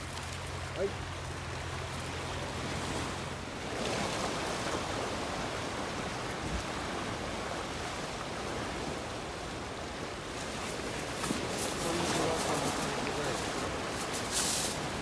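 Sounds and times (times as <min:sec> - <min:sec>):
sea surf washing: 0:00.0 - 0:15.0.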